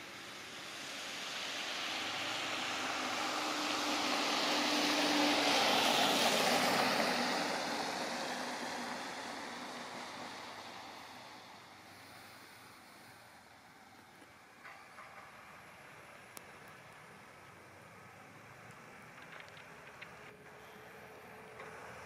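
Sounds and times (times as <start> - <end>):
snow scraping along plow blade: 0.0 - 22.0.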